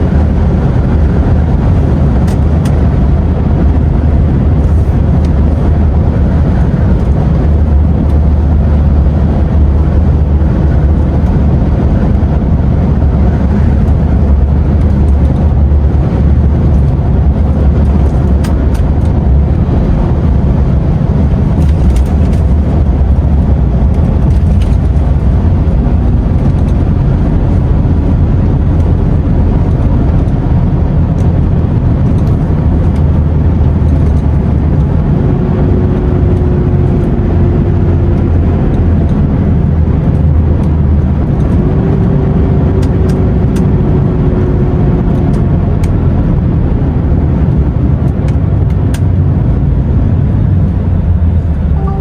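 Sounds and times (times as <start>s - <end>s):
road noise: 0.0s - 52.0s
truck engine drone: 0.0s - 52.0s.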